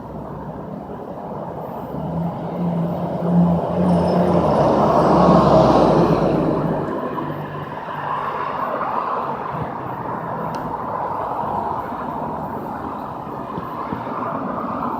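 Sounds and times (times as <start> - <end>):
passing vehicle traffic: 0.0 - 14.9.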